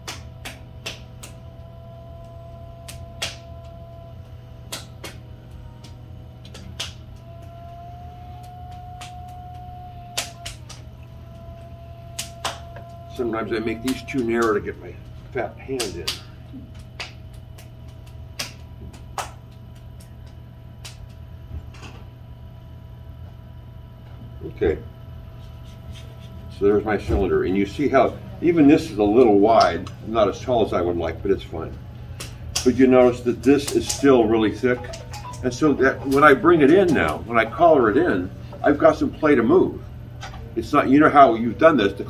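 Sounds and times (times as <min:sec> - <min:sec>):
potter's wheel humming: 0:00.0 - 0:42.0.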